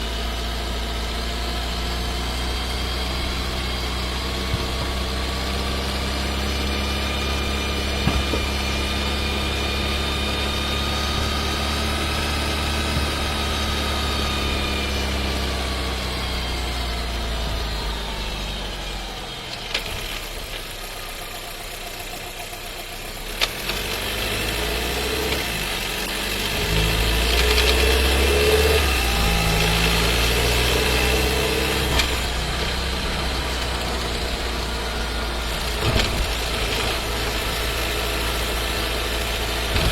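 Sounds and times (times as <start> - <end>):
car engine from inside cabin: 0.0 - 39.9.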